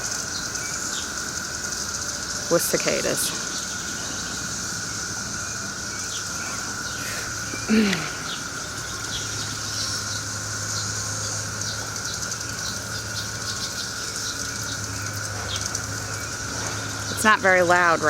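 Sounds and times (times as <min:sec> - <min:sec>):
cicada chorus drone: 0:00.0 - 0:18.0
insect buzz passing close: 0:00.0 - 0:18.0.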